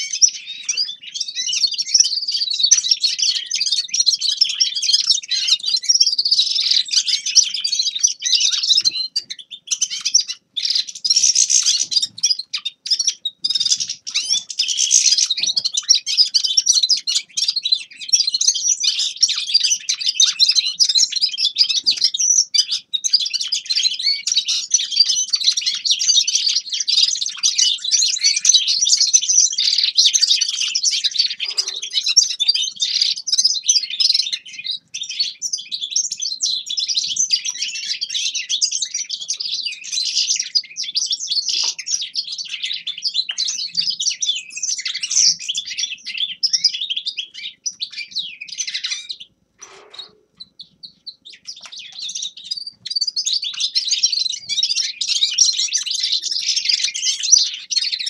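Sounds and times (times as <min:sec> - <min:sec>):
finch singing: 0:00.0 - 0:58.0.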